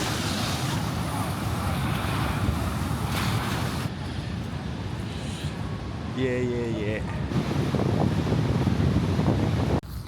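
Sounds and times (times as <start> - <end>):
sea surf: 0.0 - 9.8
wind buffeting microphone: 0.0 - 10.0.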